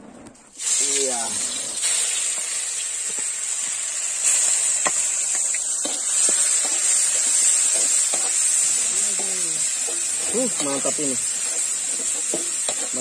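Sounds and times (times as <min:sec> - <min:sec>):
paste sizzling in hot oil: 0:00.5 - 0:13.0.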